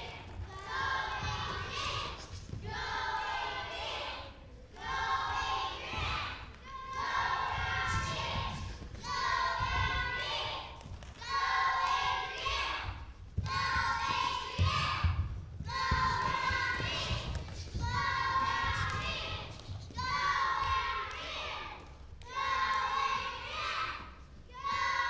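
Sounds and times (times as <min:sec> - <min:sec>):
footwork on stage floor: 0:00.0 - 0:25.0.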